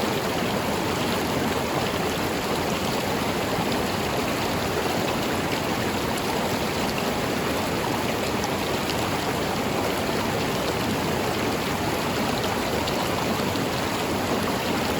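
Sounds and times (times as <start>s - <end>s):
river water rushing over rocks: 0.0s - 14.9s.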